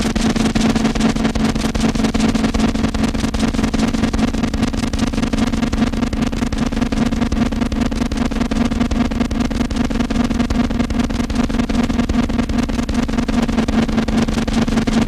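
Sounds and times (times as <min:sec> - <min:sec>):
distorted electronic noise: 0:00.0 - 0:15.0
fast crackling flutter: 0:00.0 - 0:15.0
loud low drone: 0:00.0 - 0:15.0.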